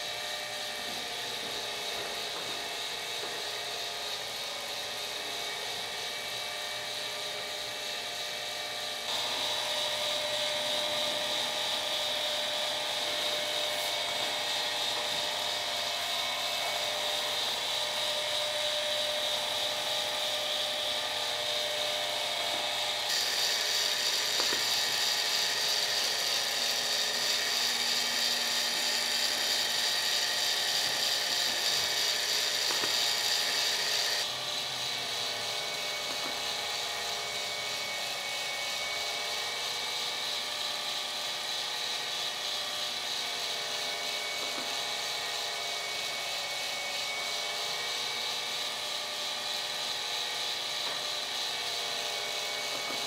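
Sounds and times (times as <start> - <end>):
motor whirring with high whine: 0.0 - 53.0.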